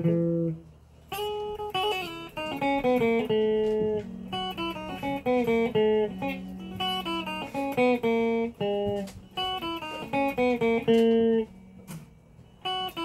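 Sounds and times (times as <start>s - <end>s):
electric guitar melody: 0.0s - 13.0s.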